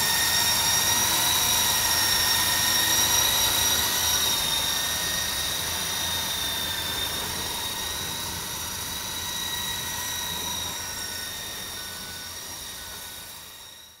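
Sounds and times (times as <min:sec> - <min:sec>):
rc helicopter motor whine: 0:00.0 - 0:14.0.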